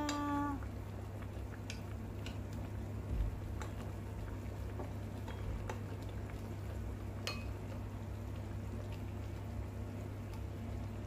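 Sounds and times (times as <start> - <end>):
soup bubbling in a pot: 0.0 - 11.0.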